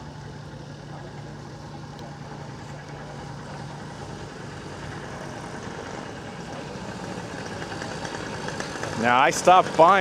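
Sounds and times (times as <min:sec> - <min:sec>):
engine idling: 0:00.0 - 0:10.0
outdoor noise: 0:00.0 - 0:10.0.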